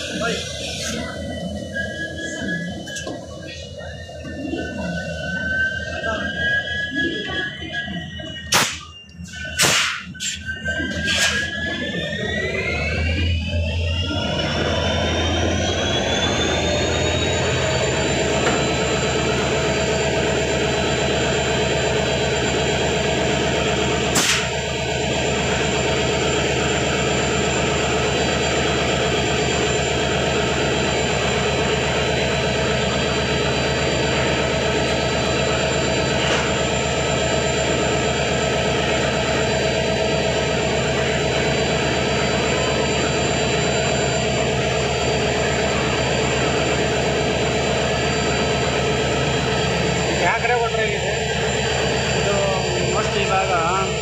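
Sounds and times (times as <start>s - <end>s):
diesel locomotive engine drone: 0.0s - 54.0s
high whine: 0.0s - 54.0s.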